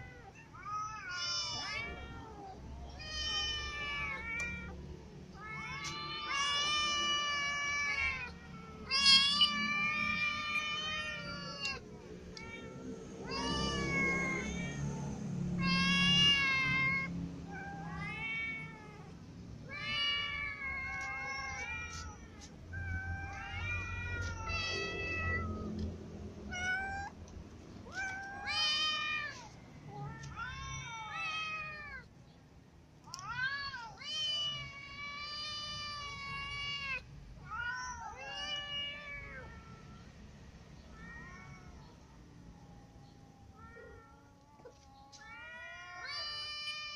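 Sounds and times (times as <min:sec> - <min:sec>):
cats meowing: 0:00.0 - 0:32.2, 0:33.0 - 0:46.9.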